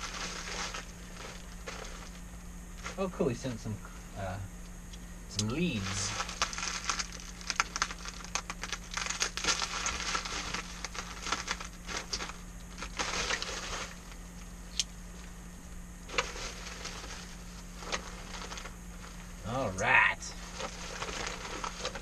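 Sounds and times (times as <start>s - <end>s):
bubble wrap crackling: 0.0s - 3.2s, 5.5s - 14.8s, 16.0s - 22.0s.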